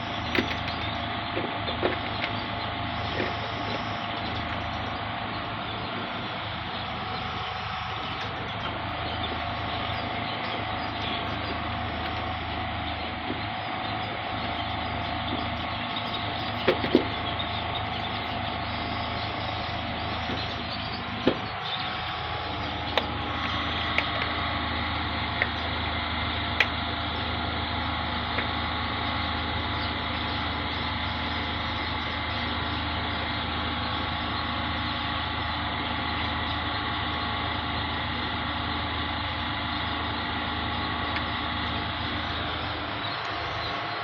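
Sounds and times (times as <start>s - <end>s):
steady mechanical hum: 0.0s - 44.0s.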